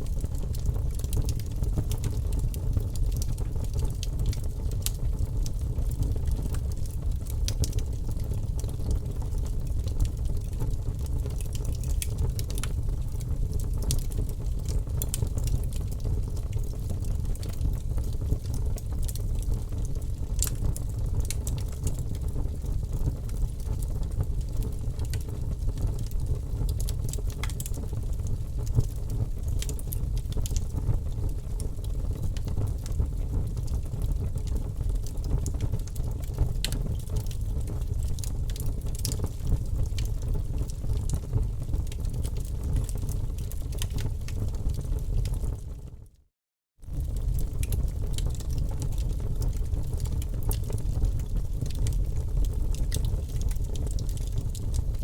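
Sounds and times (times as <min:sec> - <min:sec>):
fire crackles and pops: 0:00.0 - 0:45.8, 0:46.8 - 0:55.0
low rumble of flames: 0:00.0 - 0:46.1, 0:46.8 - 0:55.0.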